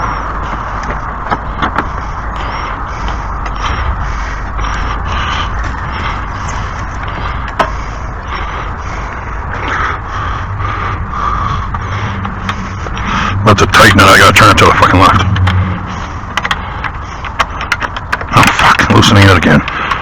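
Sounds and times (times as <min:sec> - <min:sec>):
steady noisy rumble: 0:00.0 - 0:20.0.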